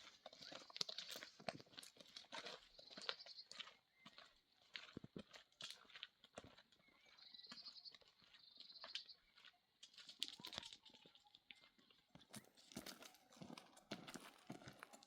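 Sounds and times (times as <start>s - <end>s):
horse hooves on rough ground: 0.0s - 15.0s.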